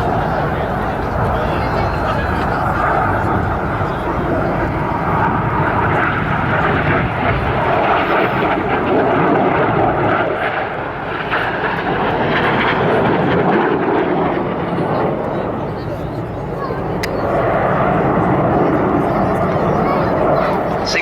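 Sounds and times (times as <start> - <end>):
jets flying overhead: 0.0 - 21.0.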